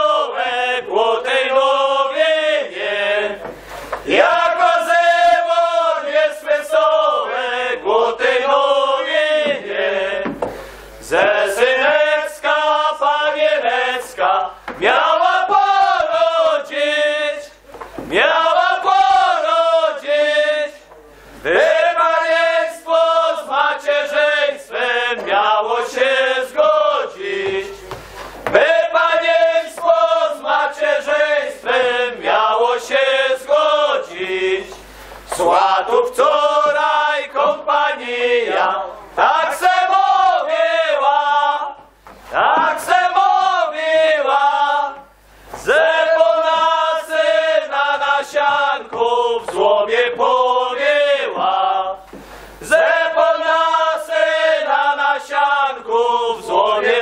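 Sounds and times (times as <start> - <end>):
men singing a carol together: 0.0 - 57.0.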